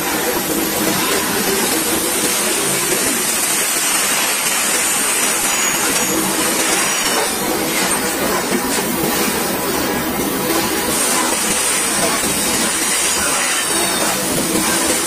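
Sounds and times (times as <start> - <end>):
steel wheels running on rails: 0.0 - 15.0
train undercarriages rattling: 0.0 - 15.0.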